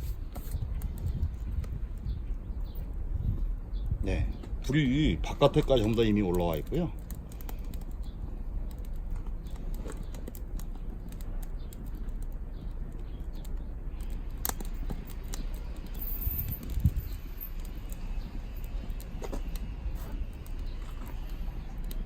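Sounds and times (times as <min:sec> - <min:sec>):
firewood crackling and popping: 0:00.0 - 0:22.0
low fire rumble: 0:00.0 - 0:22.0.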